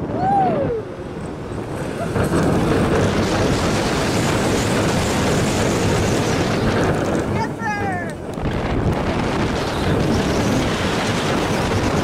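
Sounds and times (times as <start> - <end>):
roller coaster rumbling on track: 0.0 - 12.0
wind rushing over microphone: 0.0 - 12.0.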